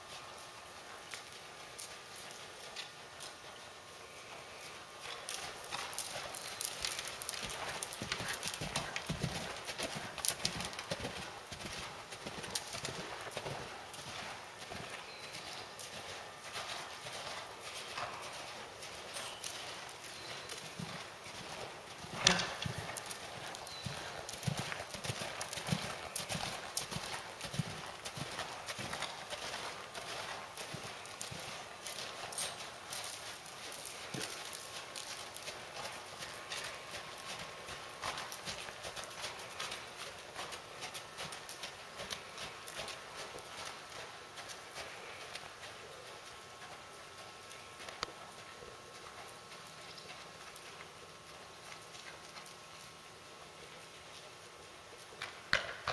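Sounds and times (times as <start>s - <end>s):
horse hoofbeats on dirt: 0.0s - 55.9s.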